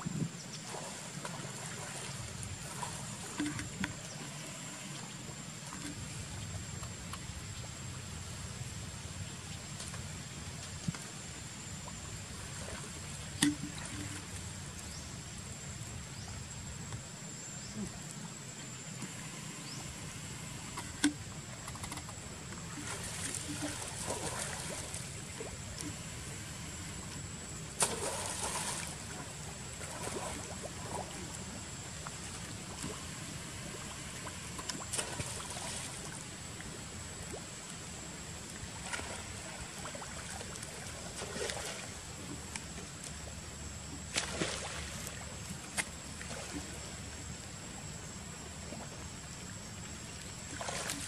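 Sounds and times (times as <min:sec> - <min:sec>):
water splashing and sloshing: 0:00.0 - 0:51.0.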